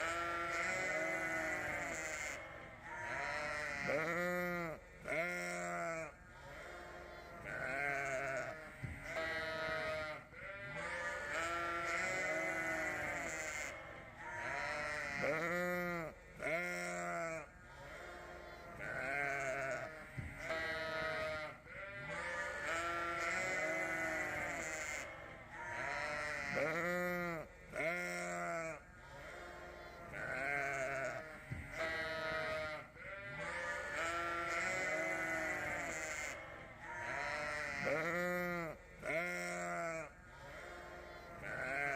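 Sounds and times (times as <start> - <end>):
sheep bleating: 0.0 - 41.9.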